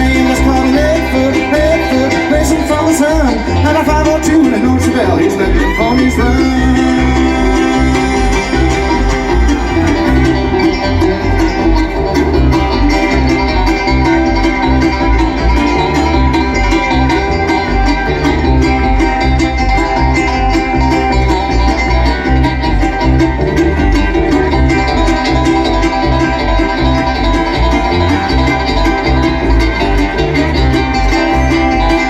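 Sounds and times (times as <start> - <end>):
bluegrass band playing: 0.0 - 32.0
picked banjo: 0.0 - 32.0.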